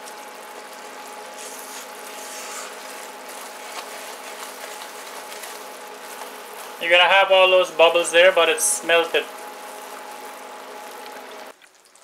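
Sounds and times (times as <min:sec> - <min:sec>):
glaze bubbling in a saucepan: 0:00.0 - 0:12.0.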